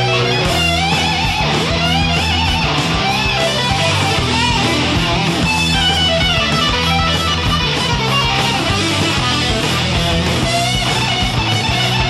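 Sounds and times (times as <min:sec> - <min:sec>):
guitar background music with beat: 0:00.0 - 0:12.0.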